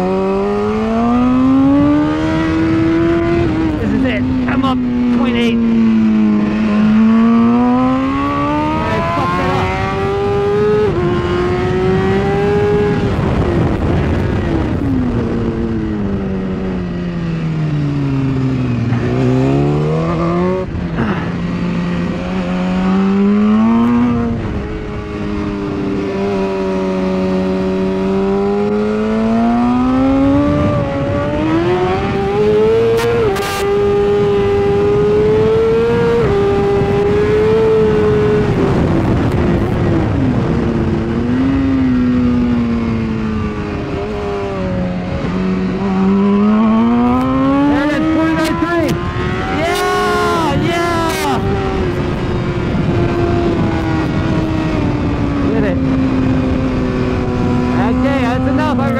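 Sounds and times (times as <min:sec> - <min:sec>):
motorcycle engine at race pace: 0:00.0 - 0:58.9
wind rush: 0:00.0 - 0:58.9.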